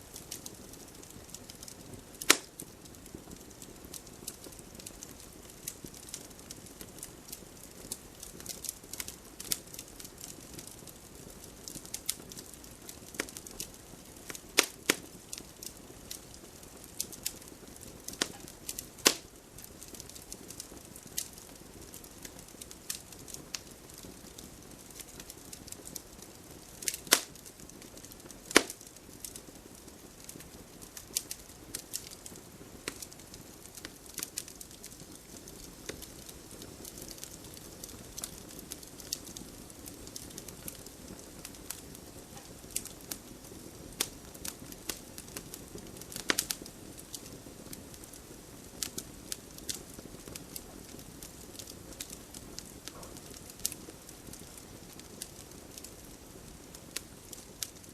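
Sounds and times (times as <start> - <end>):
campfire crackling: 0.0 - 57.9
soft steady hiss: 0.0 - 57.9
fire pops: 0.1 - 57.9.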